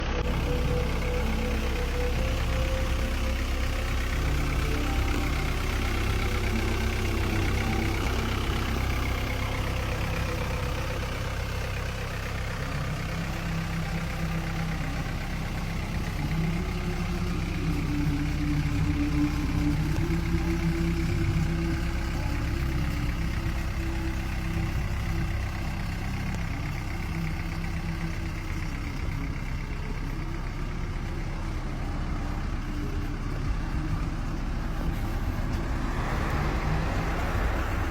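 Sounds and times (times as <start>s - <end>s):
higher engine tone: 0.0s - 37.9s
van engine droning: 0.0s - 37.9s.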